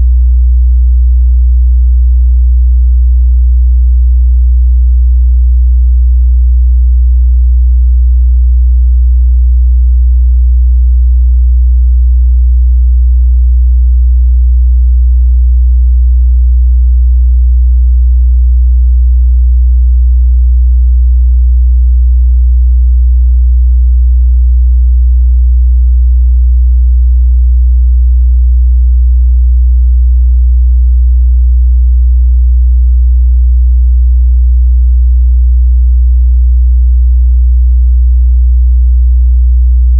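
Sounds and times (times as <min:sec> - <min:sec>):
low sine-wave test tone: 0:00.0 - 0:36.4, 0:37.0 - 0:37.4.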